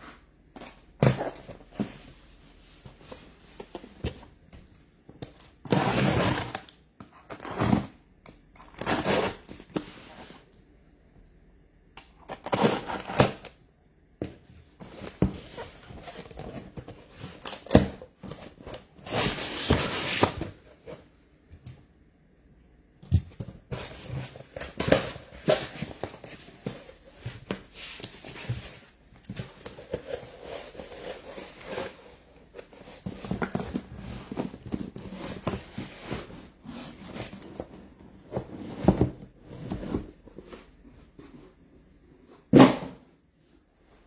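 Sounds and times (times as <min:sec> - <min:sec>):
cardboard rustling and crinkling: 0:00.0 - 0:10.6, 0:14.2 - 0:21.2, 0:23.0 - 0:42.7.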